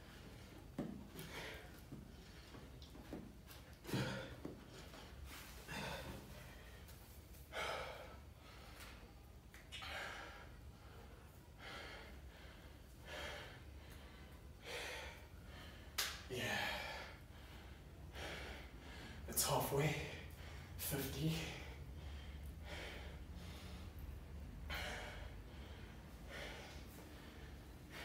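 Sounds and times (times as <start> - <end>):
man breathing hard: 0.0 - 28.0.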